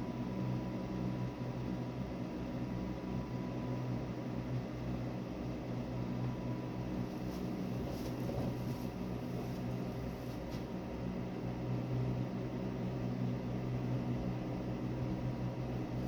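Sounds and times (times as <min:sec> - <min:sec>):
electric fan whirring: 0:00.0 - 0:16.0
mains hum: 0:00.0 - 0:16.0.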